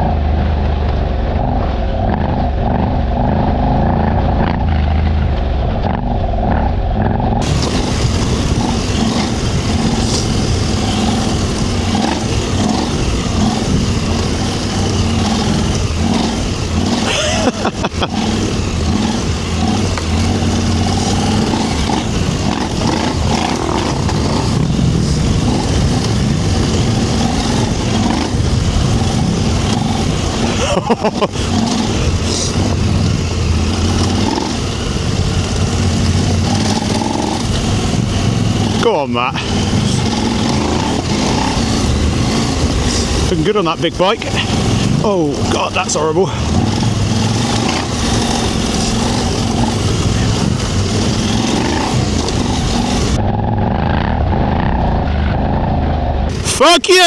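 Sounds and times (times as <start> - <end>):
tyre noise: 0.0 - 53.3, 56.2 - 57.0
wind noise: 0.0 - 56.8
motorcycle engine running: 0.0 - 57.0.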